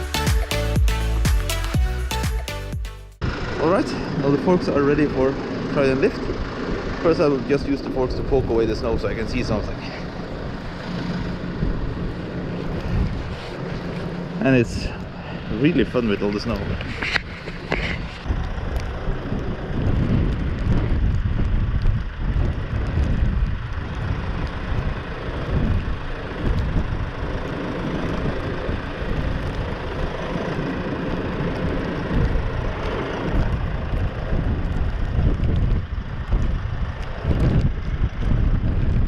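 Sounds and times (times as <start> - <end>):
tractor diesel engine running: 3.2 - 38.6
wind buffeting microphone: 4.5 - 39.0.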